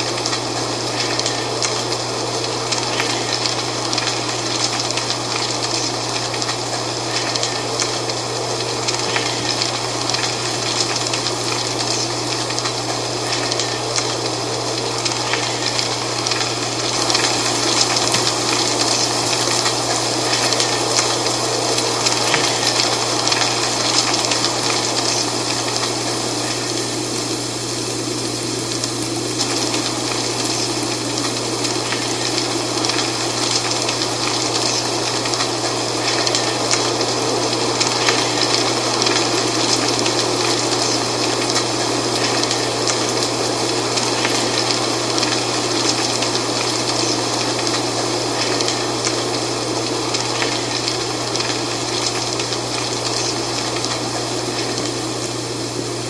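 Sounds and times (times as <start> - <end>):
dry leaves rustling: 0.0 - 56.0.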